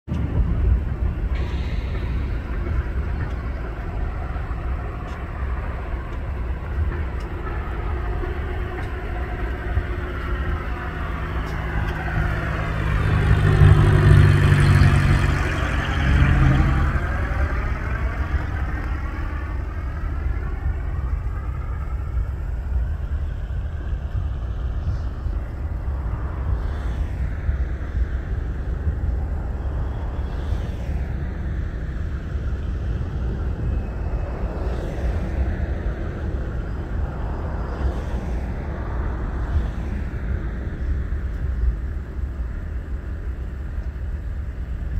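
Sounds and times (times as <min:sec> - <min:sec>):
propeller plane droning overhead: 0:00.1 - 0:44.9.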